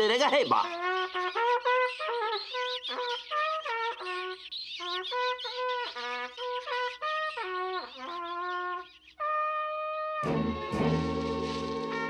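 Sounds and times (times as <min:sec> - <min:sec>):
small trumpet tune: 0:00.8 - 0:12.0.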